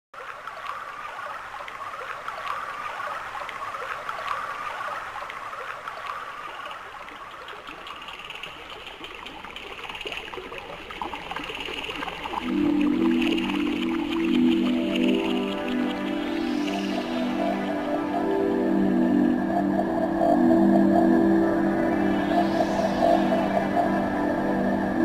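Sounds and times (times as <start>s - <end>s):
water trickling and babbling: 0.2s - 25.0s.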